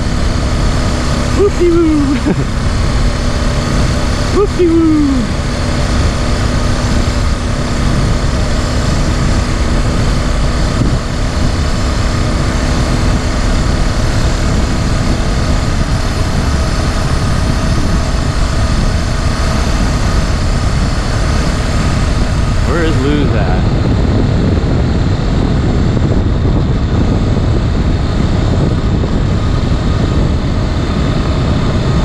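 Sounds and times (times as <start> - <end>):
small engine running: 0.0 - 32.0
wind rumble on microphone: 0.0 - 32.0.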